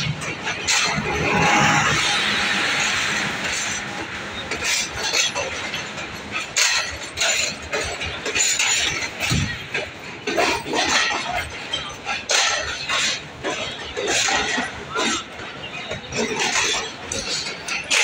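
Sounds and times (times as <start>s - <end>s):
train coaches rushing past: 0.0s - 18.0s
wheels and couplings clanking: 0.0s - 18.0s.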